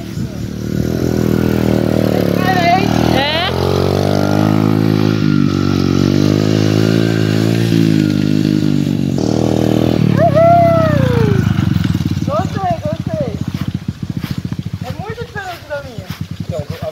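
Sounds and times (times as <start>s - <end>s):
motorbike engine revving: 0.0s - 16.9s.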